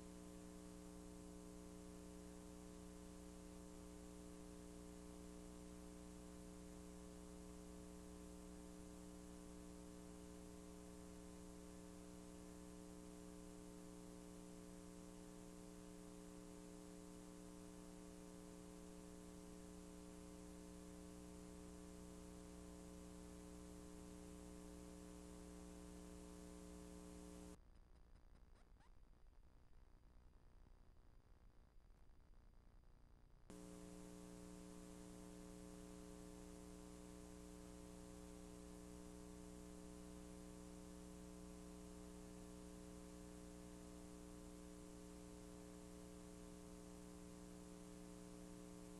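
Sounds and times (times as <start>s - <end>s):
faint electrical hum with hiss: 0.0s - 27.6s, 28.5s - 48.9s.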